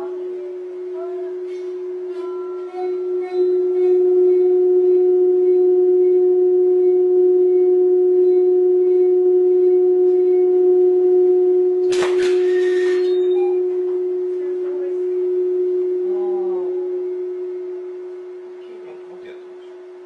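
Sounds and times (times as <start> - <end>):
fainter higher tone: 0.0 - 20.0
steady pure tone: 0.0 - 20.0.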